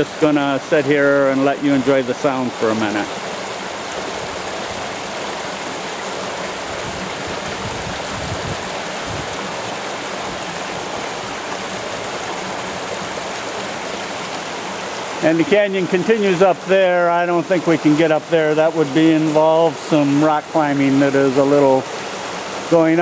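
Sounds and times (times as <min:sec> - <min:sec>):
waterfall splashing into pool: 0:00.0 - 0:23.0.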